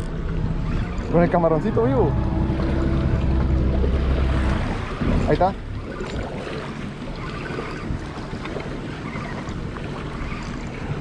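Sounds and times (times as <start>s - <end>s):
outboard motor running: 0.0s - 11.0s
water slapping against hull: 0.0s - 11.0s
wind buffeting microphone: 0.0s - 11.0s.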